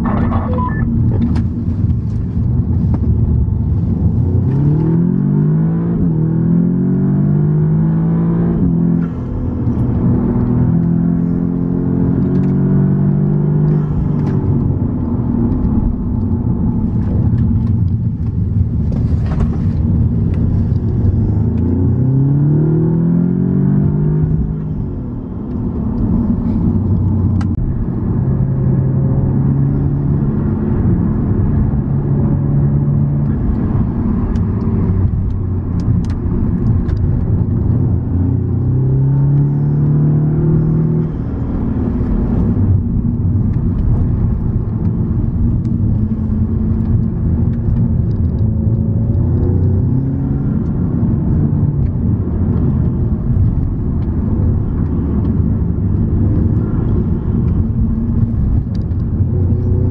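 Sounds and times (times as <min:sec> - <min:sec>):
car engine heard from cabin: 0:00.0 - 0:59.9.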